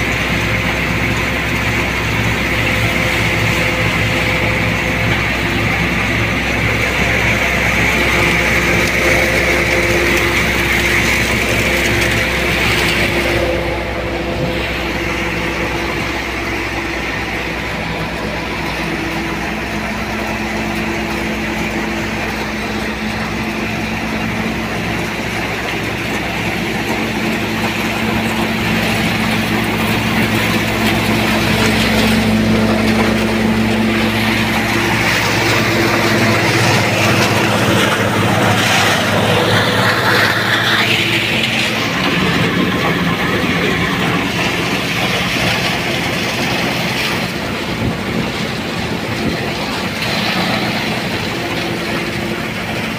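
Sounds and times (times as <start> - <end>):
crop thresher droning: 0.0 - 52.9
engine hum: 0.0 - 52.9.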